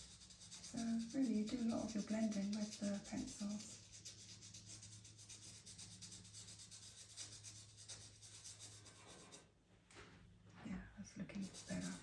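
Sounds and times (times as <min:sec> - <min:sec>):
pencil rubbing on paper: 0:00.0 - 0:09.4, 0:11.3 - 0:12.0.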